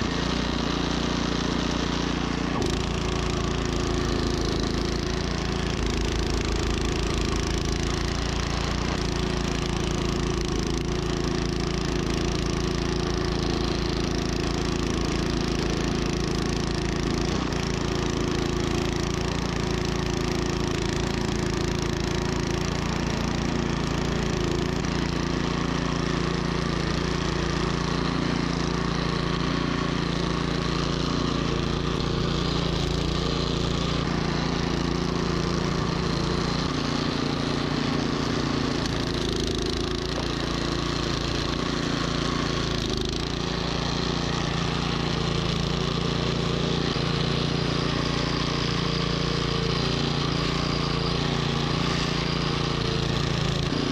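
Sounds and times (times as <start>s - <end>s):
snowblower engine running: 0.0s - 53.9s.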